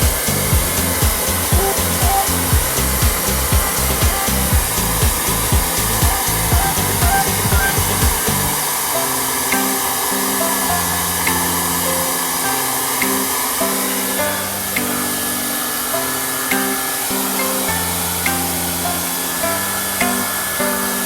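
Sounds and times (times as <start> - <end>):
background music with bass beat: 0.0 - 21.0
hair dryer blowing: 0.0 - 21.0.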